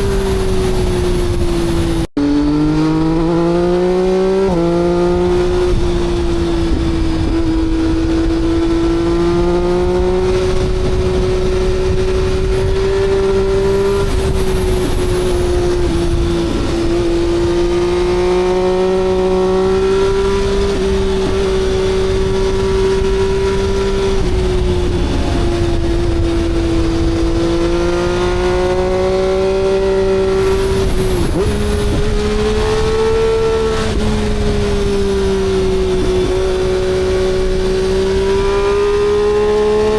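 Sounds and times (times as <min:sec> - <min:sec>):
engine running at high revs: 0:00.0 - 0:39.9.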